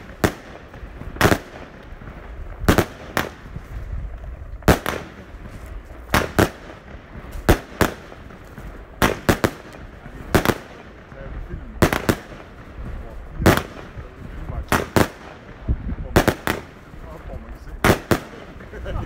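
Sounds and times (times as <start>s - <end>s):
firework bangs: 0.0s - 19.0s.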